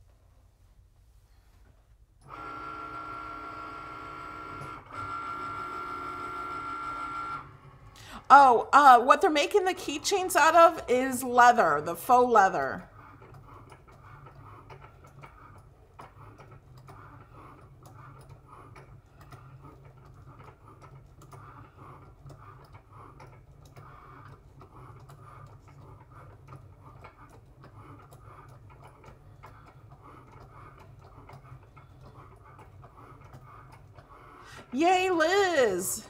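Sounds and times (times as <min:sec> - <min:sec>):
faint motor hum: 0:00.0 - 0:36.0.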